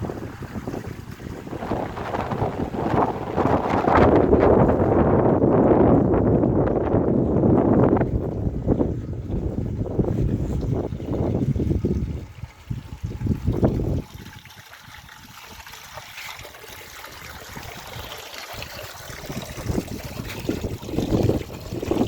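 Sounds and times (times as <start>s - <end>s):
small stream trickling: 0.0s - 5.1s, 6.8s - 22.0s
wind buffeting microphone: 0.0s - 22.0s.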